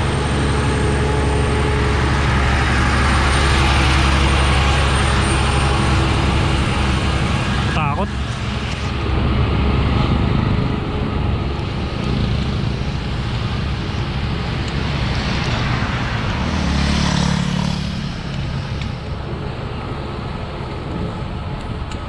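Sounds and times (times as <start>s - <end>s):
motor vehicle passing: 0.0s - 21.5s
wind and road noise: 0.0s - 22.0s.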